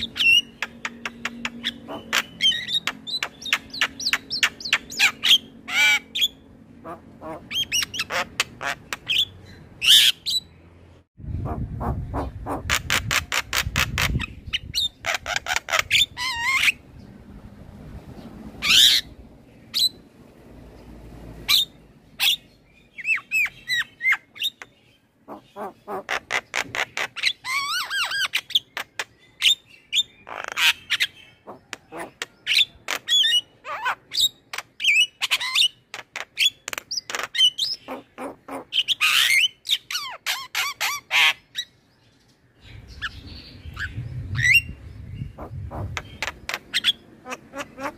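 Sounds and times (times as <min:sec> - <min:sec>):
myna bird singing: 0:00.0 - 0:47.9.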